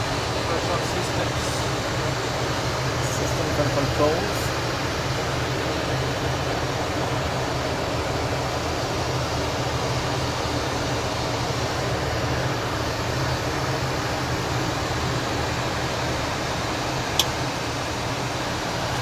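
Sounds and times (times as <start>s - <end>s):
jet cockpit airflow and engine noise: 0.0s - 19.0s.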